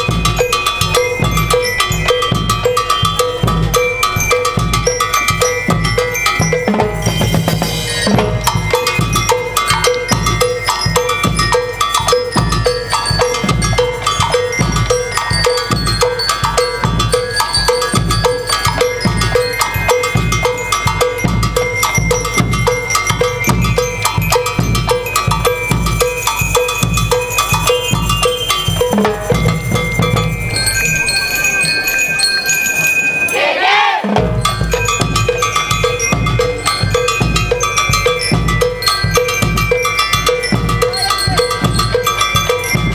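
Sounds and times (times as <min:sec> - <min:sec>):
snare and bass drums march beat: 0:00.0 - 0:30.4, 0:34.0 - 0:42.9
bell lyres melody: 0:00.0 - 0:42.9.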